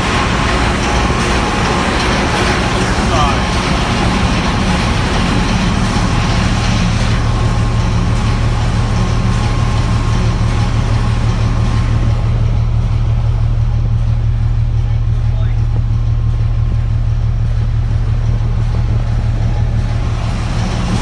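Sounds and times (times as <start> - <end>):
machinery whine: 0.0 - 21.0
ship engine low hum: 0.0 - 21.0.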